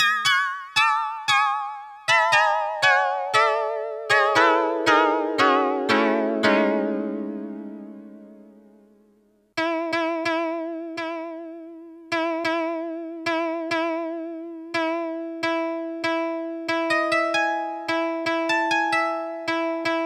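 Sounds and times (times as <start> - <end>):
plucked koto-like synthesizer notes: 0.0 - 9.0, 9.6 - 20.0.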